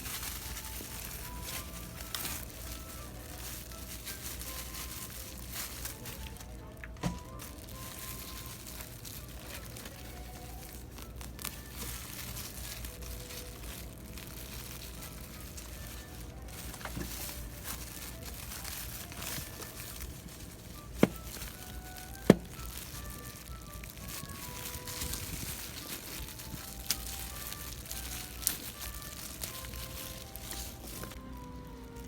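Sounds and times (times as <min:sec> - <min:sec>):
crinkling and rustling: 0:00.0 - 0:32.0.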